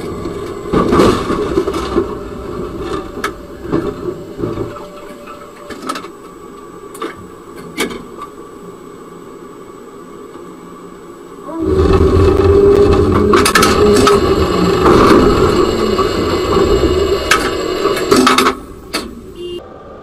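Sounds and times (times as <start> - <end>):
low steady hum: 0.0 - 19.6
steady whine: 0.0 - 19.6
tram running rumble: 0.0 - 20.0.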